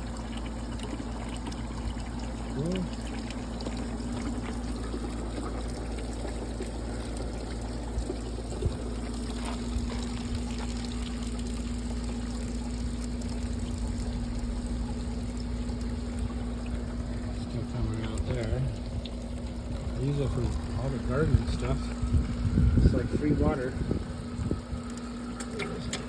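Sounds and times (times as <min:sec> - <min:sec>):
steady low hum: 0:00.0 - 0:26.0
water pouring into barrel: 0:00.0 - 0:26.0.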